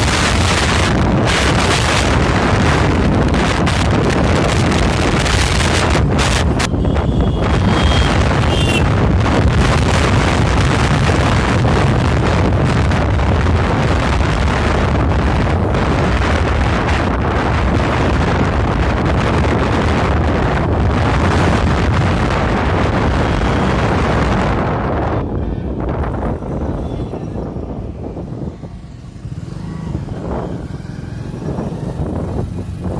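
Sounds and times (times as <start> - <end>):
vehicle running noise: 0.0 - 32.9
wind rumble on microphone: 0.0 - 32.9.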